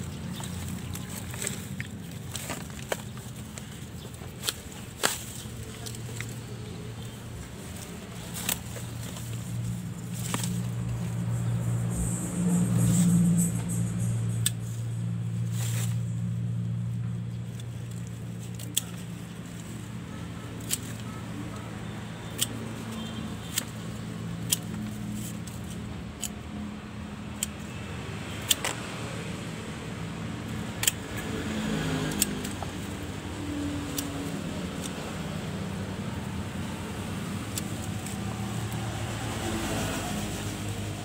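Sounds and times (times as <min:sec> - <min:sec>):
pruning shears snipping: 0:00.1 - 0:16.6, 0:17.4 - 0:29.2, 0:30.3 - 0:40.8.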